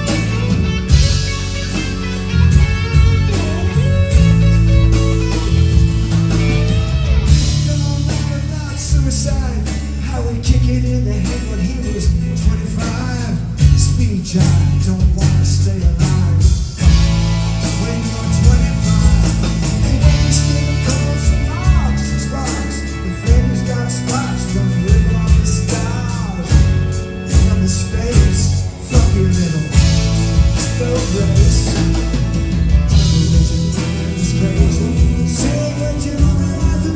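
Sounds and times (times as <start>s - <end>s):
live rock band playing: 0.0s - 36.9s.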